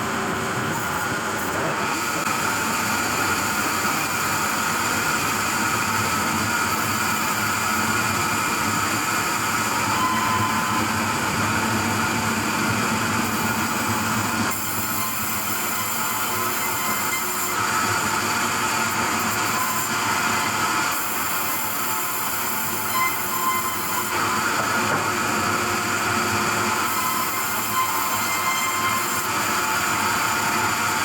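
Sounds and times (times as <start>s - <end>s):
sawmill machinery whining: 0.0s - 31.0s.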